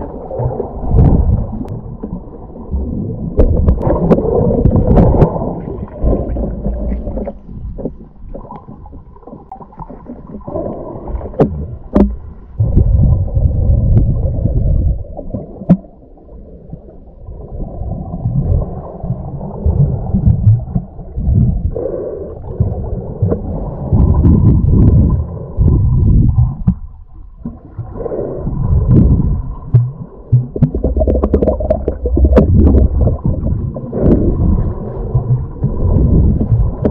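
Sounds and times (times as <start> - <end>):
muffled underwater water rumble: 0.0 - 36.9.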